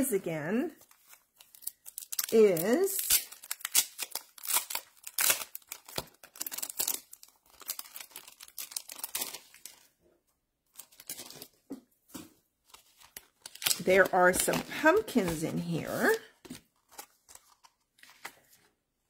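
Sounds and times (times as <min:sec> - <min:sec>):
plastic packaging crinkling: 0:00.8 - 0:10.0, 0:10.7 - 0:18.5.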